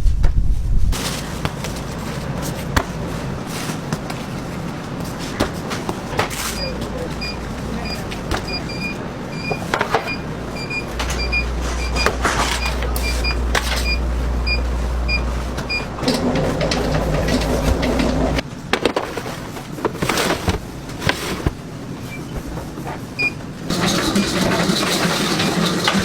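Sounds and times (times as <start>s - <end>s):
machinery running with low hum: 0.0s - 26.0s.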